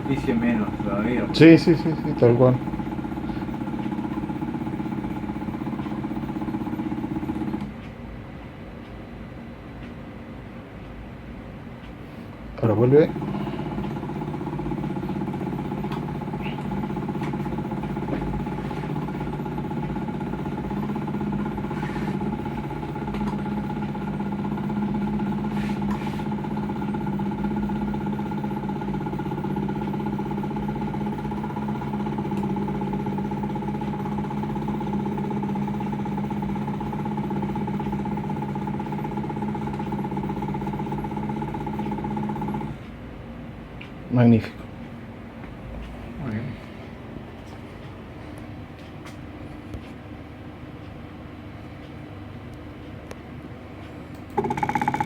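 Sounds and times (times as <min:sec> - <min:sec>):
electric drive humming and whining: 0:00.0 - 0:55.0.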